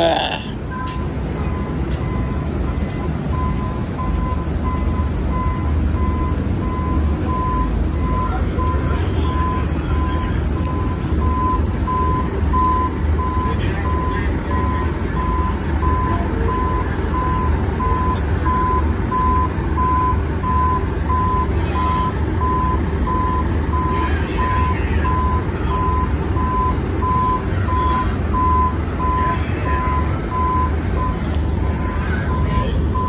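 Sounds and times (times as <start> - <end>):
truck engine running: 0.0 - 33.0
truck back-up alarm beeping: 0.1 - 33.0.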